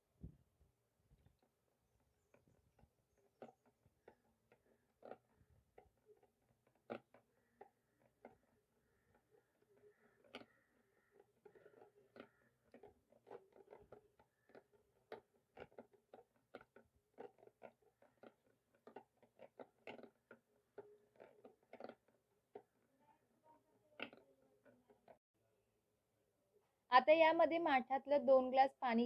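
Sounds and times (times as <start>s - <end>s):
hand churner beating curd: 1.2s - 25.2s.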